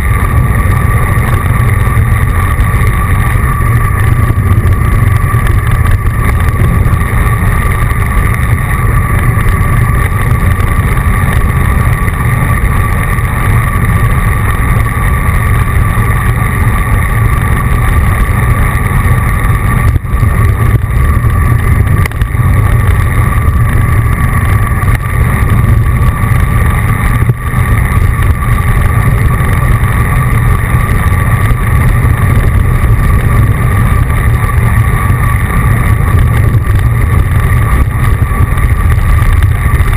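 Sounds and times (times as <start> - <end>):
faint whine: 0.0 - 39.9
road noise: 0.0 - 39.9
wind rumble on microphone: 0.0 - 39.9.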